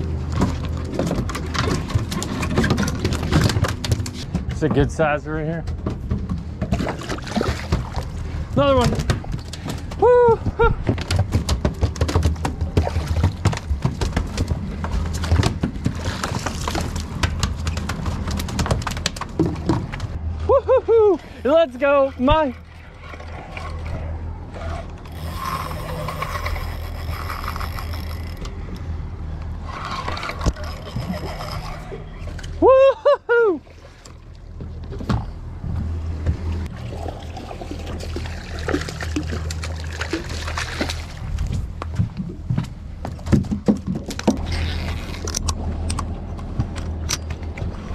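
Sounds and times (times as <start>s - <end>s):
water splashing and sloshing: 0.0s - 47.9s.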